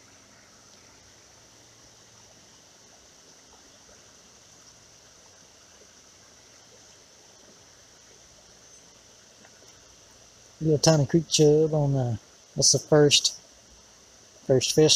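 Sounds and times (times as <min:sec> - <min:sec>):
creek trickling over stones: 0:00.0 - 0:14.9.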